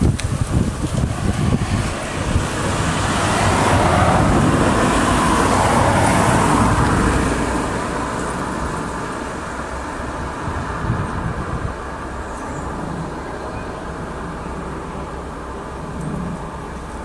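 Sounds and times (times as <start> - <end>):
diesel train engine running: 0.0 - 17.0.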